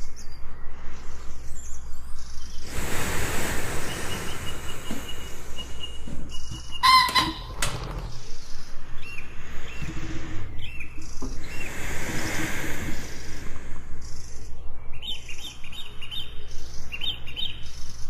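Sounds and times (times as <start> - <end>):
jungle birds calling: 0.0 - 18.0.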